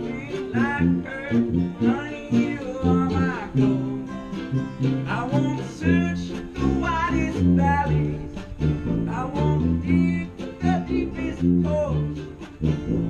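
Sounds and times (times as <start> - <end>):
plucked strings: 0.0 - 13.0
sliding melody line: 0.0 - 13.0
tuba bass notes: 0.0 - 13.0.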